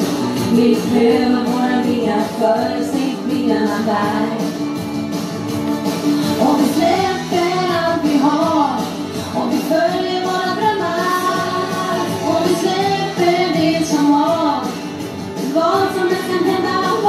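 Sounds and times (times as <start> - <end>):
instrumental backing music: 0.0 - 17.0
woman singing into a microphone: 0.1 - 4.7, 6.2 - 17.0.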